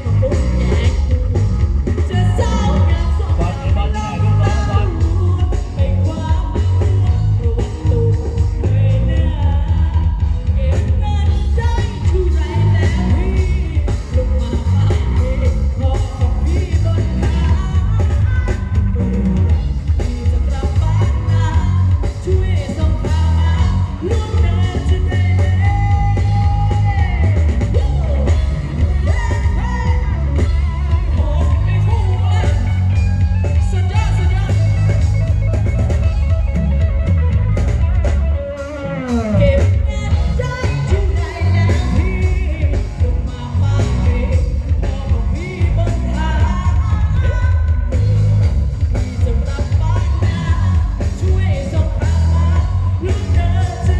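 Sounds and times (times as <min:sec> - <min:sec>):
song with heavy bass on loudspeakers: 0:00.0 - 0:53.9.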